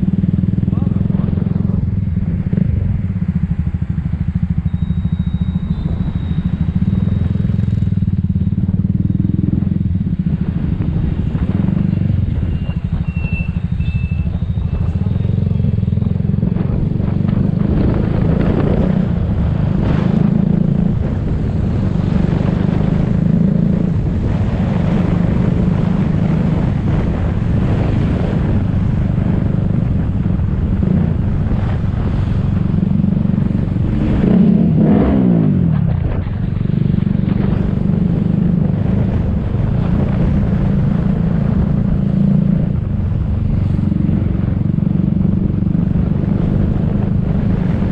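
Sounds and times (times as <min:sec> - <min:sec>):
engine pitch sweeping down: 0:00.0 - 0:47.9
road and traffic noise: 0:00.0 - 0:47.9
scooter engine hum: 0:00.0 - 0:47.9.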